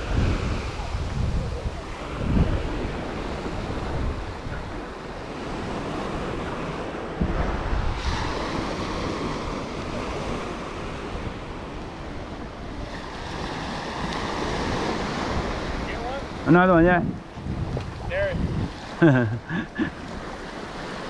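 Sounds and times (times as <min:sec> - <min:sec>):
waves washing up a beach: 0:00.0 - 0:21.0
wind buffeting microphone: 0:00.0 - 0:21.0.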